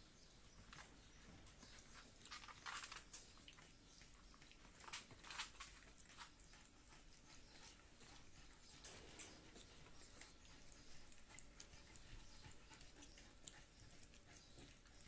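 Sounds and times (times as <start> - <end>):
puppies clicking and scuffling on floor: 0.0 - 15.0.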